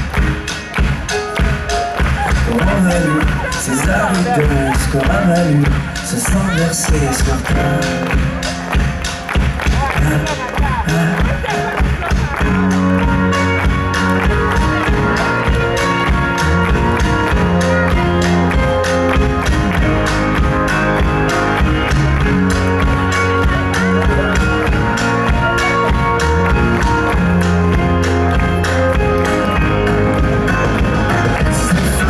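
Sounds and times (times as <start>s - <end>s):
live band playing: 0.0s - 32.0s.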